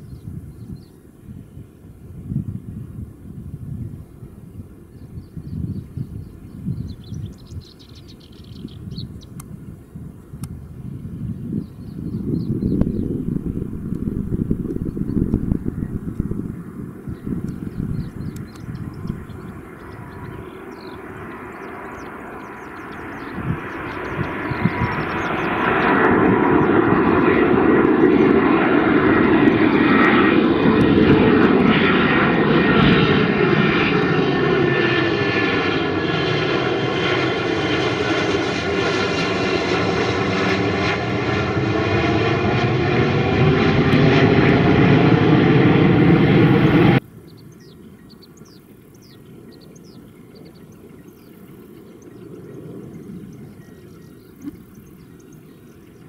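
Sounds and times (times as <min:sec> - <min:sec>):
jet airliner engine roar overhead: 0:00.0 - 0:56.0.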